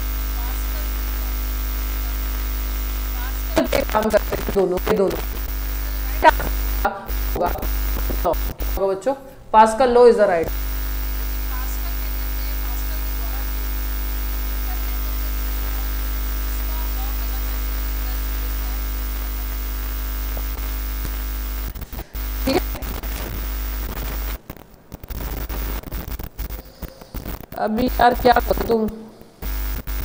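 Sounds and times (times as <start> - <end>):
electrical mains hum with static: 0.0 - 30.0.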